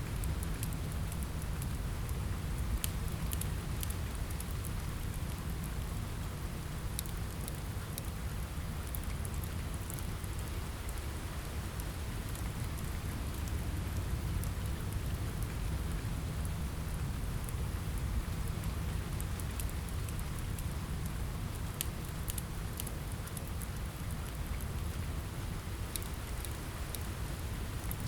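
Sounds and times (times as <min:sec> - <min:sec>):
fire crackling and popping: 0:00.0 - 0:28.0
steady rain: 0:00.0 - 0:28.0.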